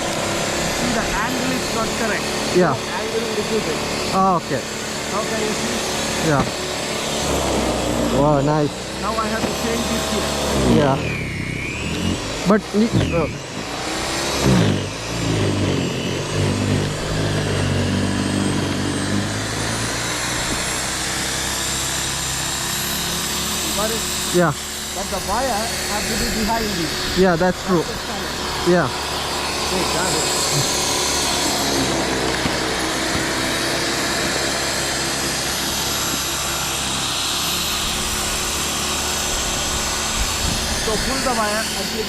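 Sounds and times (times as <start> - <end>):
snow thrower motor humming: 0.0 - 42.0.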